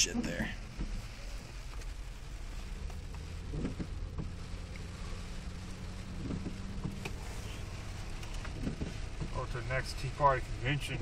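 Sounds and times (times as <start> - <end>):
car engine hum: 0.0 - 11.0
road noise: 0.0 - 11.0.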